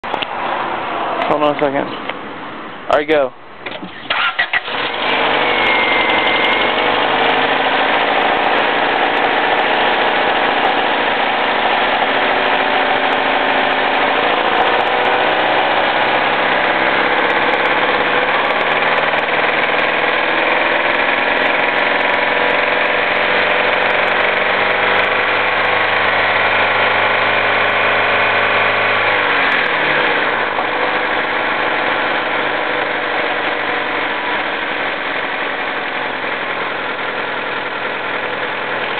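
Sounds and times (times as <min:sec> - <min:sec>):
car engine starting and idling: 0:00.0 - 0:38.9
engine knock: 0:04.6 - 0:38.9.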